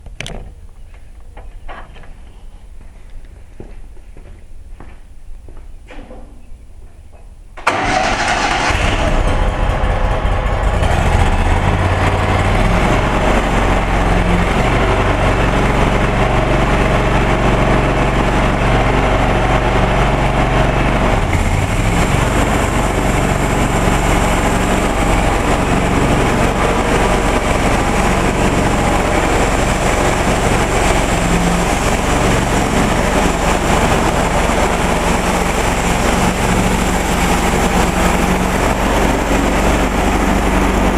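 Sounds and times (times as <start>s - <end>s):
sawmill engine starting and running: 7.6s - 40.9s.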